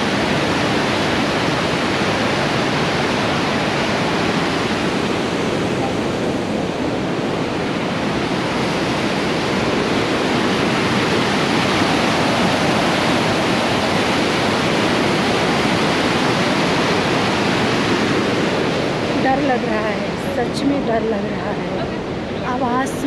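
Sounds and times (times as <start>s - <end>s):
river rushing through rapids: 0.0s - 23.0s.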